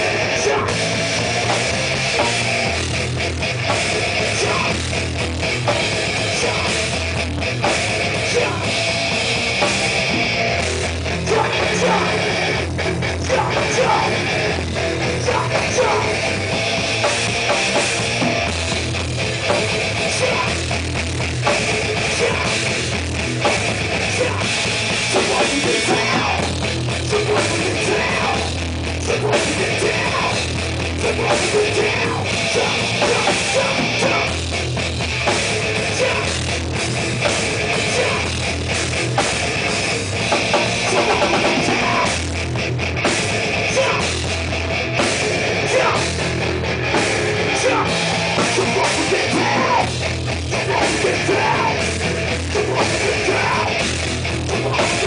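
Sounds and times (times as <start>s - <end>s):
distorted electric guitar: 0.0s - 55.0s
drum kit with cymbals: 0.0s - 55.0s.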